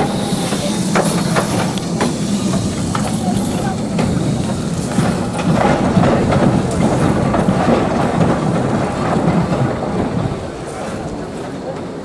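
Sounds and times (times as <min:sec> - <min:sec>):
rail clatter: 0:00.0 - 0:12.0
steam locomotive running: 0:00.0 - 0:12.0.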